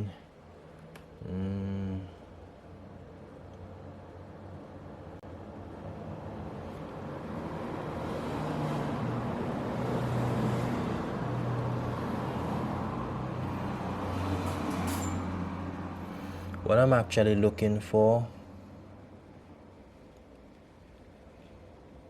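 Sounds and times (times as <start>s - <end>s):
mechanical hum with rushing noise: 0.0s - 22.0s.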